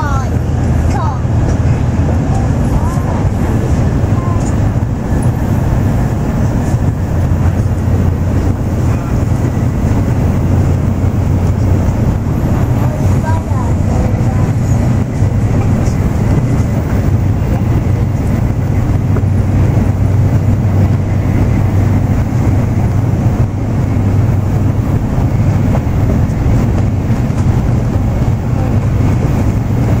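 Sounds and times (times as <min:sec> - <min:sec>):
train rumbling at speed: 0:00.0 - 0:30.0.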